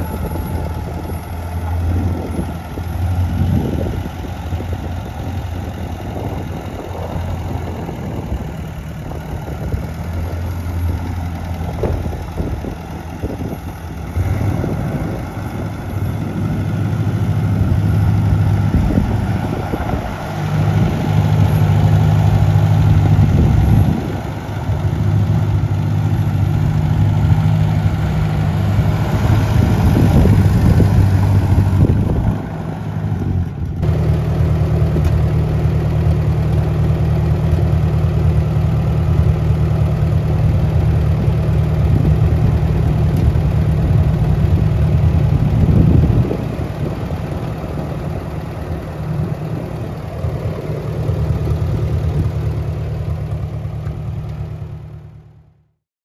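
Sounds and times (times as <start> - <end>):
tractor engine running: 0.0 - 55.8.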